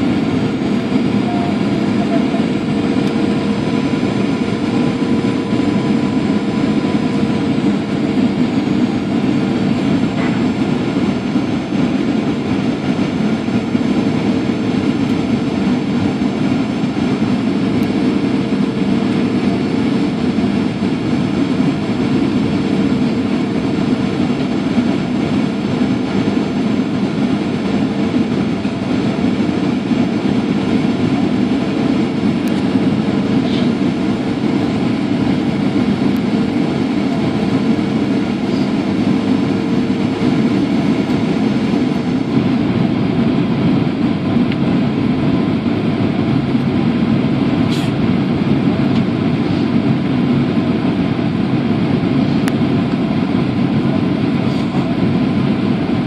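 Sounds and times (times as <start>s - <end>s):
jet engine hum: 0.0s - 56.0s
rush of airflow: 2.5s - 56.0s.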